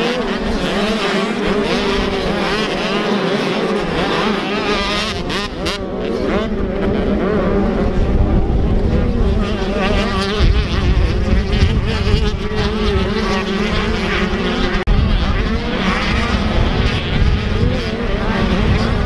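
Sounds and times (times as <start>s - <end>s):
dirt bike engines revving: 0.0s - 19.0s
wind rumbling on microphone: 3.7s - 19.0s.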